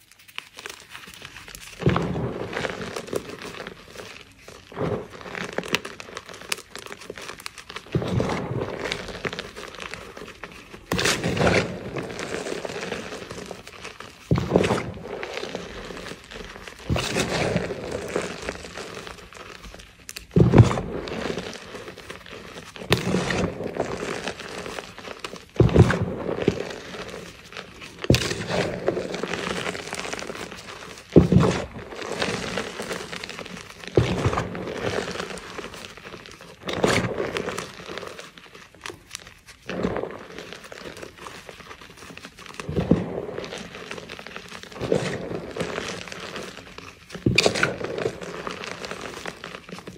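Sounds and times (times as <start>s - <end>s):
chalk crunching in hands: 0.0s - 49.9s
powder rustling: 0.0s - 49.9s.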